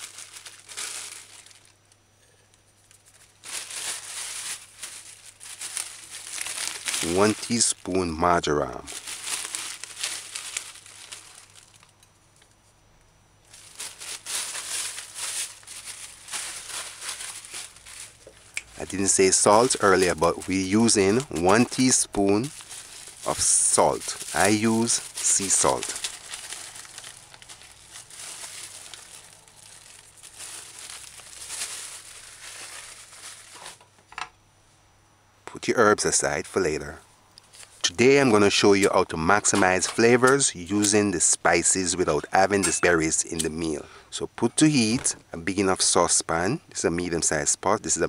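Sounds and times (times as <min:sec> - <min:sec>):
plastic bag crinkling: 0:00.0 - 0:12.6, 0:13.5 - 0:34.0, 0:37.4 - 0:43.8.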